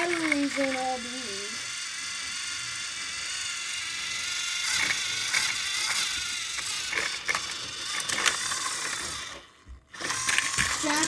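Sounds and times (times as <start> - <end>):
plastic gears clicking and rattling: 0.0 - 11.0
toy train motors whirring: 0.0 - 11.0.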